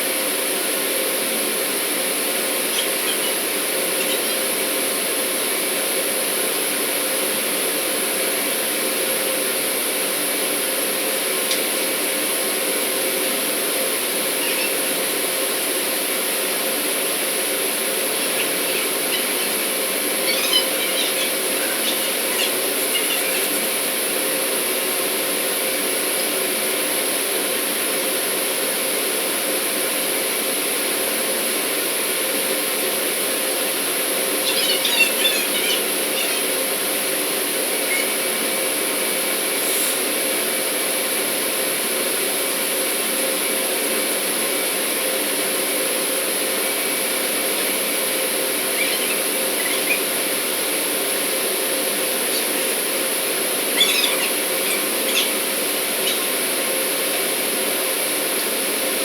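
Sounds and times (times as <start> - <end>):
industrial machinery humming: 0.0 - 59.0.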